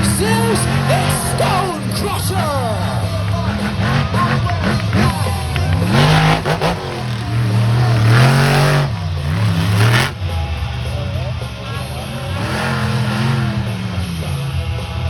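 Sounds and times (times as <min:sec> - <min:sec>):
monster truck engine revving: 0:00.0 - 0:15.0
music playing: 0:00.0 - 0:15.0.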